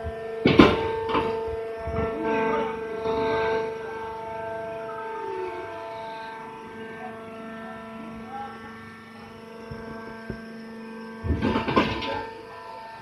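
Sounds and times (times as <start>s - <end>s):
baler motor humming: 0.0s - 13.0s.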